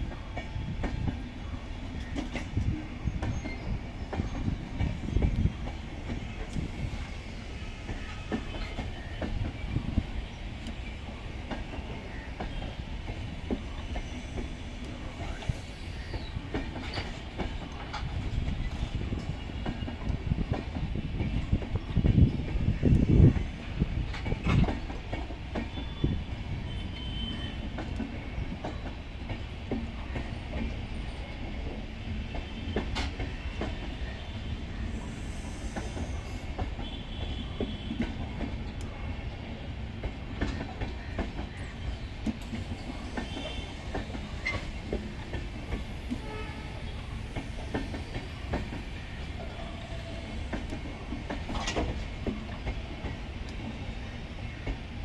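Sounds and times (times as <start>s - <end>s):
train coaches rumbling: 0.0s - 55.0s.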